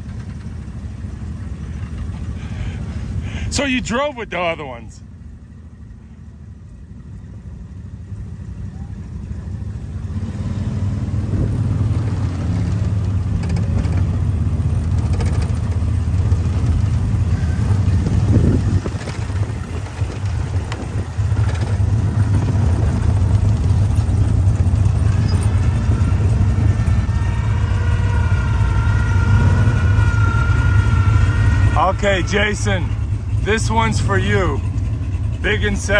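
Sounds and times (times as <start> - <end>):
truck engine rumbling: 0.0 - 35.9.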